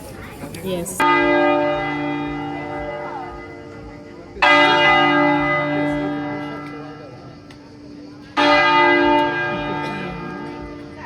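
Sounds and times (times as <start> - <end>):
large church bell tolling: 0.8 - 11.0.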